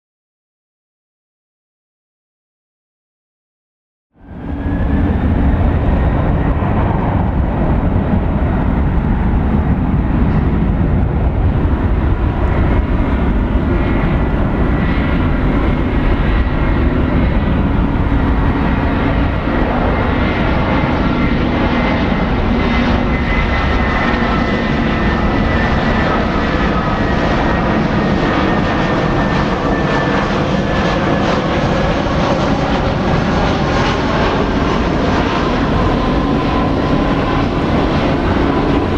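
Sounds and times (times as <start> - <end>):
jet airliner engines rumbling: 4.1 - 38.9.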